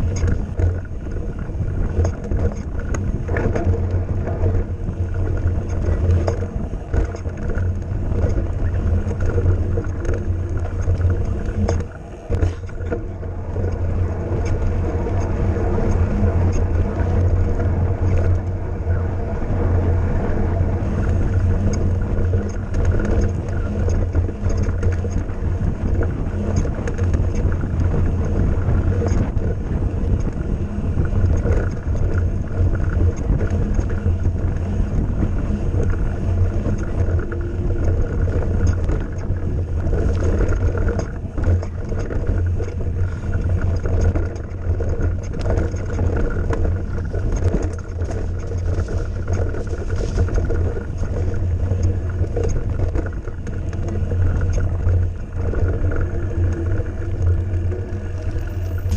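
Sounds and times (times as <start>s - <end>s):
bike tyres on dirt: 0.0s - 58.9s
wind on microphone: 0.0s - 58.9s.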